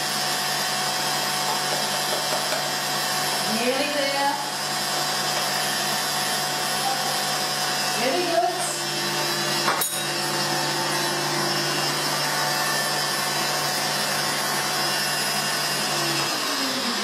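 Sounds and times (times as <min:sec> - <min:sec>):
stand mixer whisking: 0:00.0 - 0:17.0.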